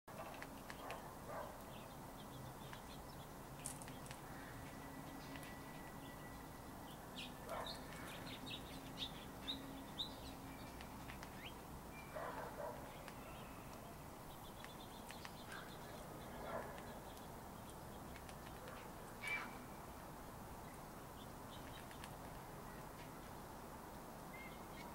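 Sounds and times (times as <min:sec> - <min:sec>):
low background hum: 0:00.1 - 0:24.9
songbirds chirping: 0:00.1 - 0:24.9.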